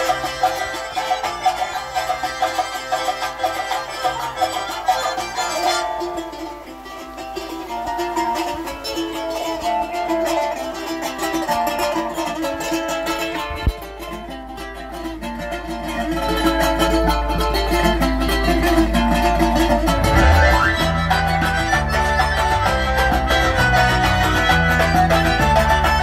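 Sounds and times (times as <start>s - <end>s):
brisk plucked string tune: 0.0s - 26.0s.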